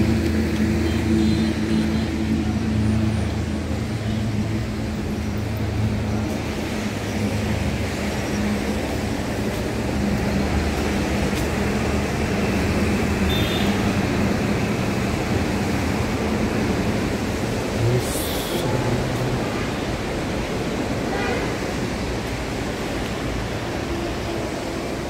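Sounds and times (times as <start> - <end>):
constant rushing noise: 0.0 - 25.0.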